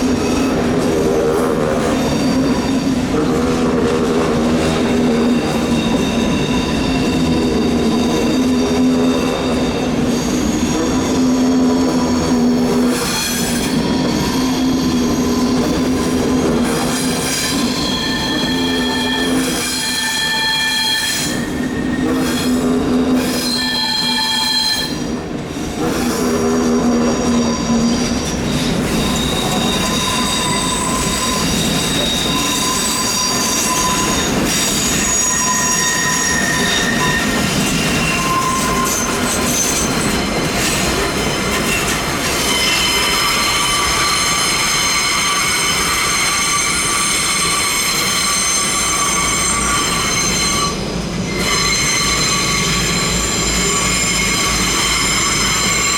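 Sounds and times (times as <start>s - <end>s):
train running noise: 0.0s - 55.9s
train wheels squealing on rails: 0.0s - 55.9s.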